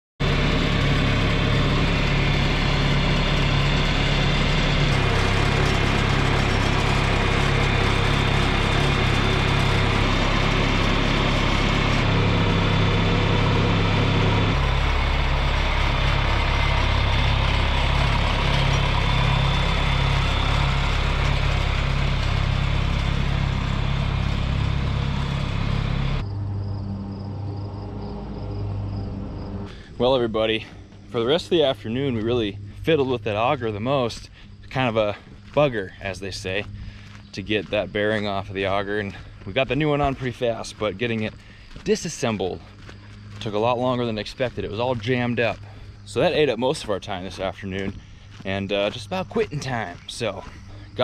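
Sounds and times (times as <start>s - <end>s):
tractor engine running: 0.2s - 51.0s.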